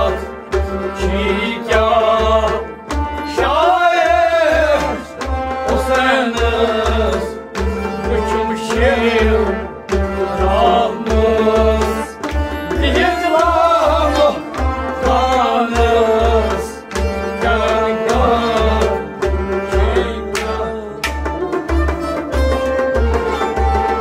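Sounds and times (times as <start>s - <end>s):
bowed string instrument: 0.0s - 24.0s
harmonium melody: 0.0s - 24.0s.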